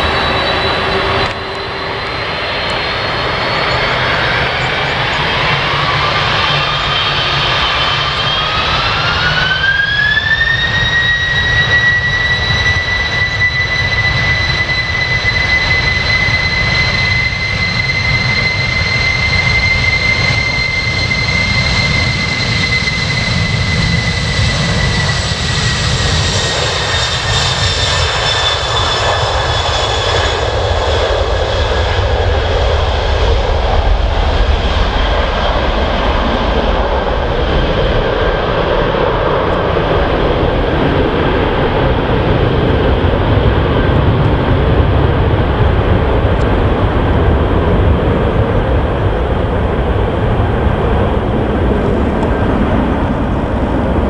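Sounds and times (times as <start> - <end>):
jet engines whining: 0.0 - 54.0
jet rumble: 0.0 - 54.0.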